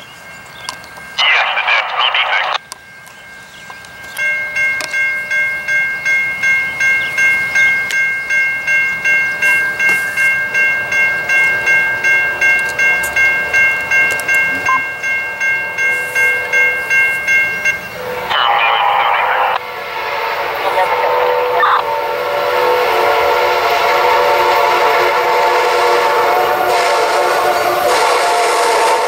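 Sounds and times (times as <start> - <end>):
crossing warning bell ringing: 0.0 - 29.0.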